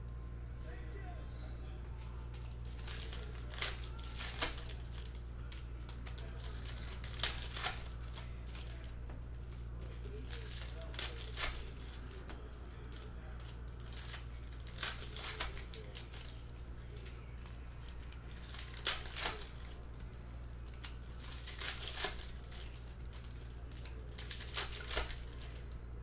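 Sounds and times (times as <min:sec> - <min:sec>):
low steady hum: 0:00.0 - 0:26.0
card wrappers crinkling and tearing: 0:01.9 - 0:26.0.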